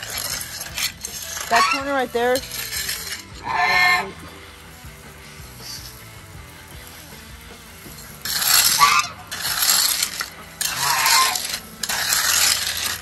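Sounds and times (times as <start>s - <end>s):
hand float rubbing wet concrete: 0.0s - 13.0s
hose spray hissing on concrete: 0.0s - 13.0s.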